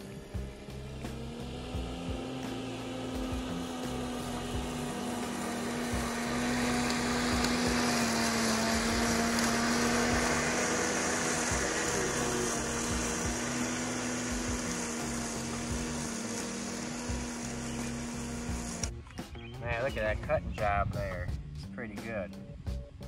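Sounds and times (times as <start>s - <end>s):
electric motor humming: 0.0s - 19.2s
blade cutting grass: 0.0s - 21.0s.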